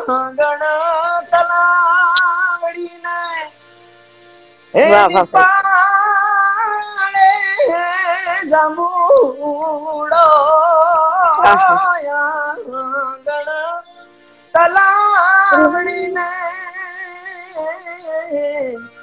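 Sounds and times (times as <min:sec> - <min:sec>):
man singing unaccompanied: 0:00.0 - 0:03.5, 0:04.8 - 0:13.9, 0:14.6 - 0:19.0.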